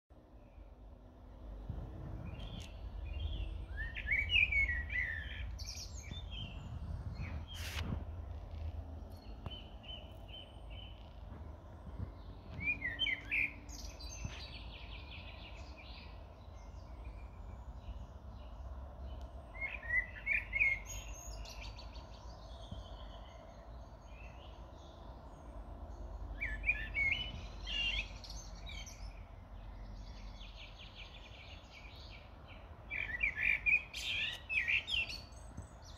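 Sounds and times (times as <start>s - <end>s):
songbird singing: 0.1s - 35.9s
faint bird chirps and trills: 0.2s - 35.9s.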